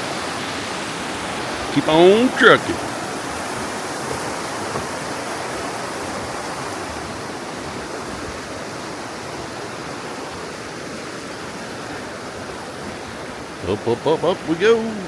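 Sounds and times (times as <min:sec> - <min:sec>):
water rushing in a stream: 0:00.0 - 0:15.0.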